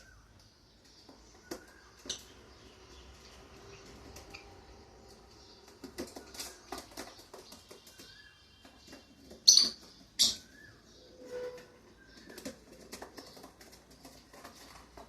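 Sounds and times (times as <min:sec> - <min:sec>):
birds clicking and tapping: 0:00.0 - 0:15.0
harsh bird calls: 0:00.0 - 0:15.0.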